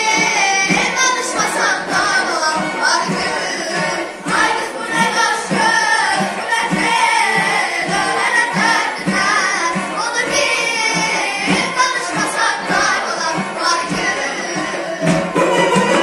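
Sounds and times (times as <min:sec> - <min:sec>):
children's choir singing: 0:00.0 - 0:16.0
frame drums beating: 0:00.0 - 0:16.0.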